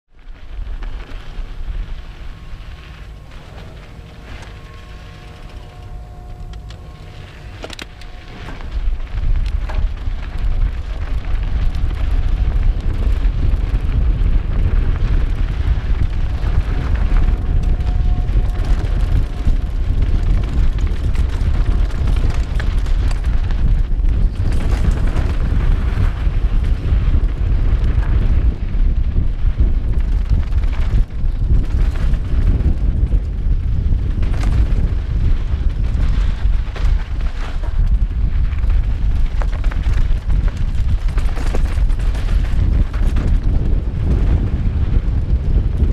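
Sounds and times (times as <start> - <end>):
wind rumble on microphone: 0.1 - 45.9.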